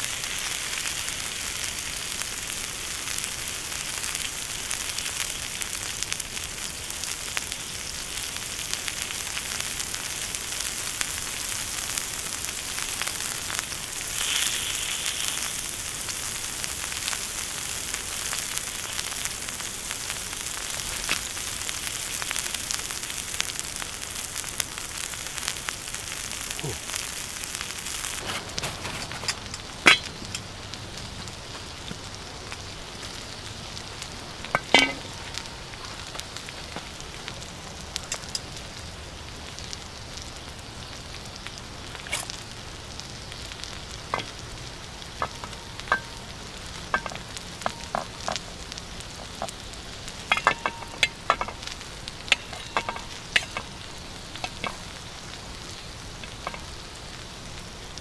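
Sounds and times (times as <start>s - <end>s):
fat popping and crackling: 0.0s - 38.9s, 40.5s - 58.0s
meat sizzling on hot stone: 0.0s - 58.0s.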